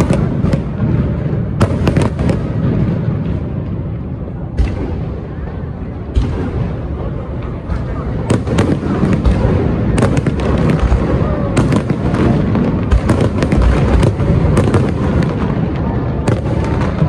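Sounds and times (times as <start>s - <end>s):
firework bangs and crackles: 0.0s - 17.0s
fireworks bursting: 0.0s - 17.0s.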